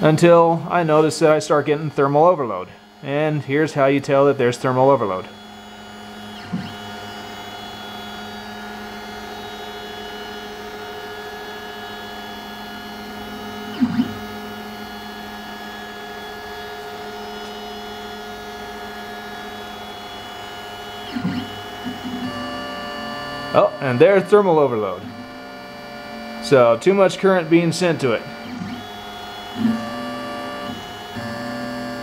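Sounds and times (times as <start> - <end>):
stepper motors humming and whining: 0.0 - 32.0.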